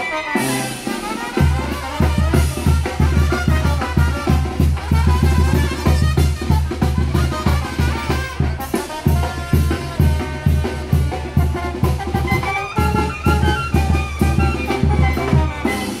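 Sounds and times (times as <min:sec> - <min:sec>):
tuba and horns melody: 0:00.0 - 0:16.0
bass drum and snare beat: 0:00.4 - 0:16.0.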